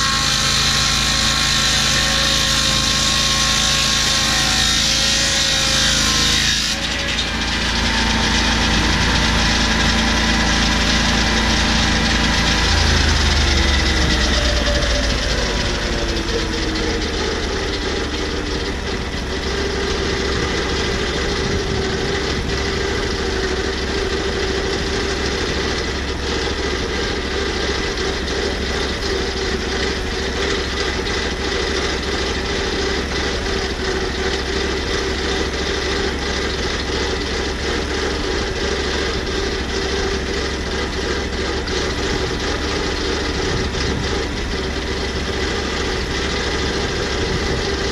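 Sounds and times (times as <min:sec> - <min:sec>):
sawmill engine running: 0:00.0 - 0:47.9.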